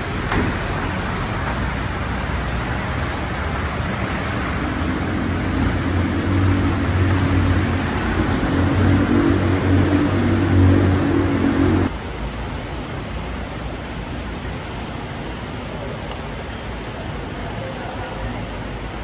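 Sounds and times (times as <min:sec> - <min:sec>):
floodwater rushing through creek: 0:00.0 - 0:19.0
vehicle engine hum: 0:00.0 - 0:19.0.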